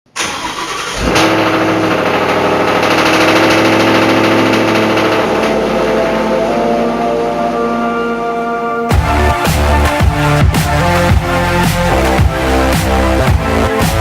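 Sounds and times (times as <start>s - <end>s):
car engine running: 0.2s - 7.9s, 8.9s - 14.0s.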